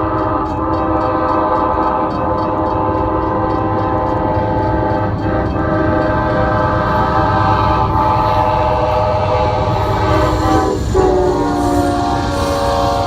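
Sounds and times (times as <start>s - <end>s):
locomotive air horn: 0.0s - 13.0s
train rumbling past: 0.0s - 13.0s.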